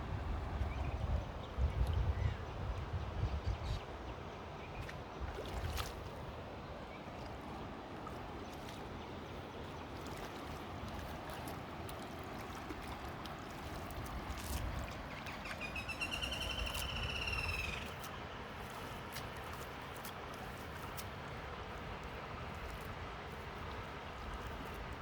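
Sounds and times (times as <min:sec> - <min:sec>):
outdoor background: 0:00.0 - 0:25.0
water trickling and gurgling: 0:04.8 - 0:25.0.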